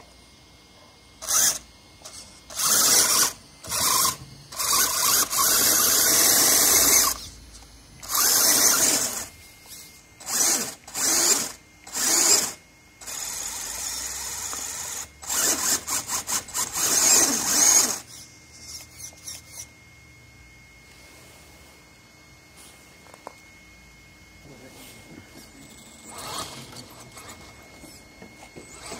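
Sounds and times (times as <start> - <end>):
electric motor whining: 0.0 - 21.1, 21.9 - 28.9.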